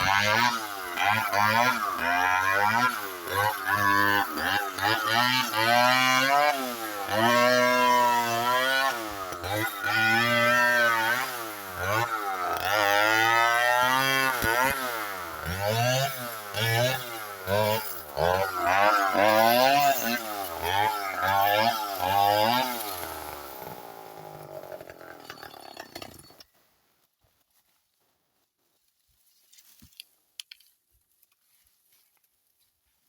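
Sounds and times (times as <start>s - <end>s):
chainsaw cutting wood: 0.0s - 26.5s.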